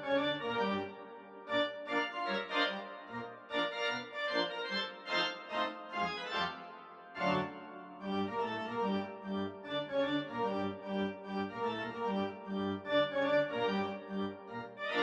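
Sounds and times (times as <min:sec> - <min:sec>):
keyboard music: 0:00.0 - 0:15.0.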